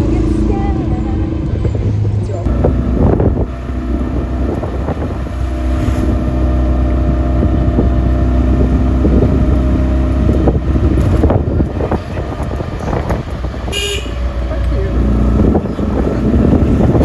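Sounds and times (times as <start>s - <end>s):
vehicle engine and road rumble: 0.0s - 17.0s
wind buffeting microphone: 0.0s - 17.0s.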